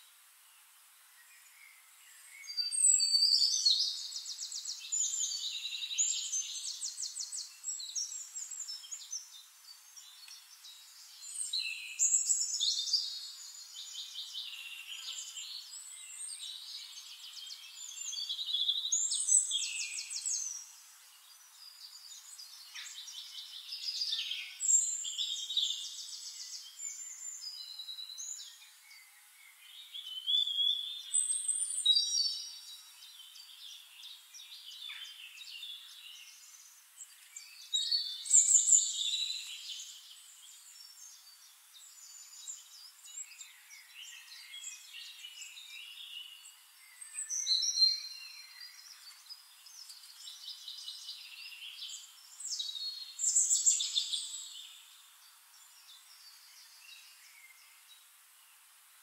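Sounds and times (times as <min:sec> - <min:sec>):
birds trilling chirps: 0:01.2 - 0:58.6.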